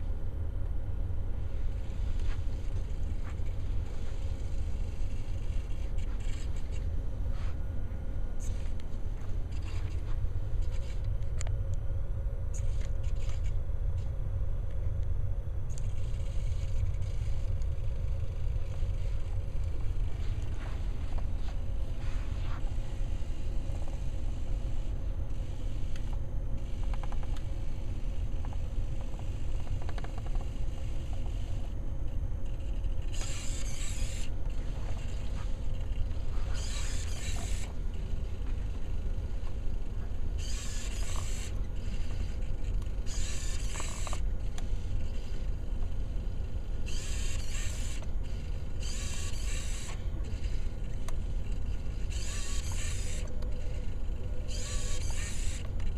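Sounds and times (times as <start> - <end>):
servo motors whirring: 1.4 - 7.6, 8.4 - 11.4, 12.5 - 14.1, 15.7 - 55.9.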